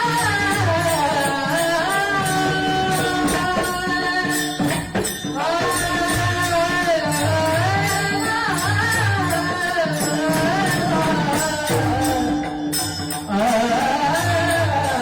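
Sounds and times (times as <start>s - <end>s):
jingling percussion beat: 0.0s - 15.0s
man singing long held notes: 0.0s - 15.0s.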